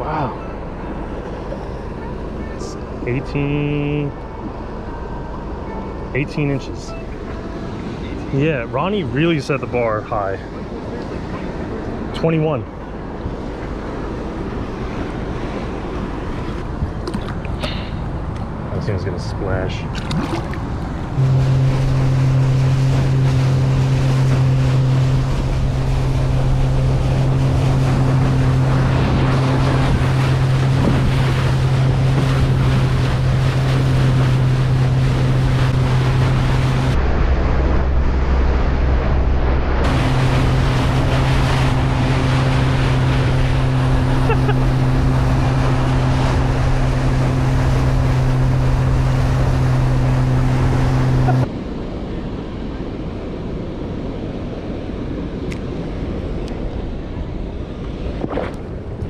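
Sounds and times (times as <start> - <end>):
outboard motor humming: 0.0 - 52.3, 54.9 - 59.0
wind and water rushing: 0.0 - 59.0.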